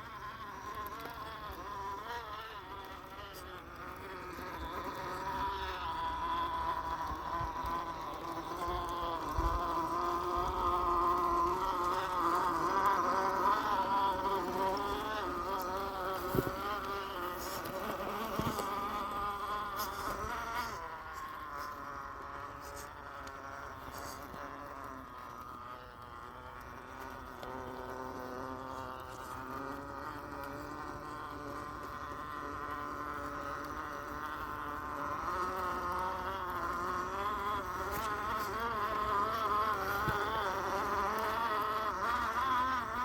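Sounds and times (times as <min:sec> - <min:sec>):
rc car motor whining: 0:00.0 - 0:43.0.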